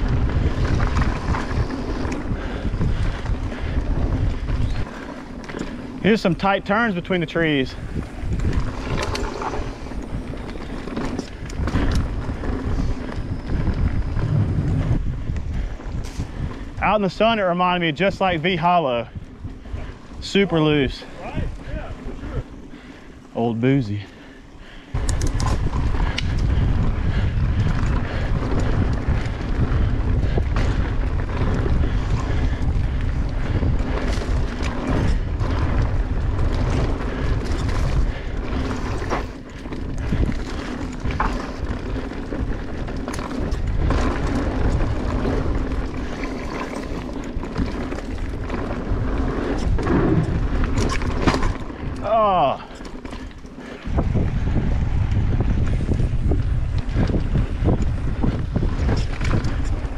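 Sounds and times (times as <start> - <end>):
bike rattling on rough ground: 0.0 - 59.9
wind buffeting microphone: 0.0 - 59.9.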